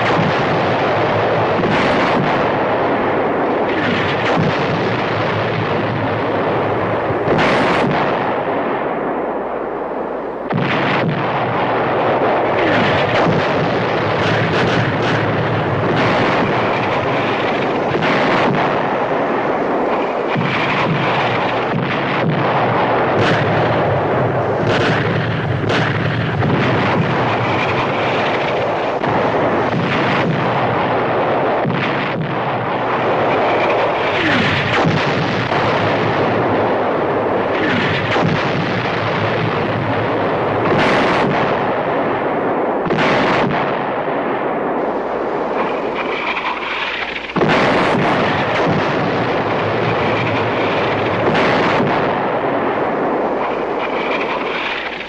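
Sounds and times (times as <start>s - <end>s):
artillery explosions: 0.0s - 55.0s
continuous gunfire: 0.0s - 55.0s.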